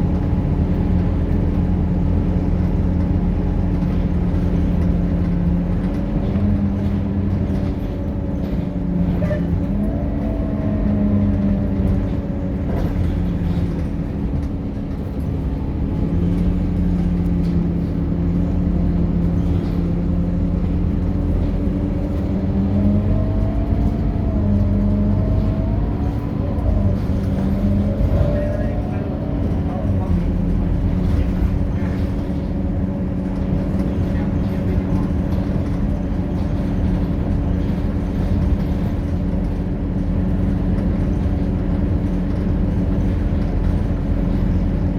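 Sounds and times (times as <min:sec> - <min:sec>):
bus diesel engine running: 0:00.0 - 0:44.9.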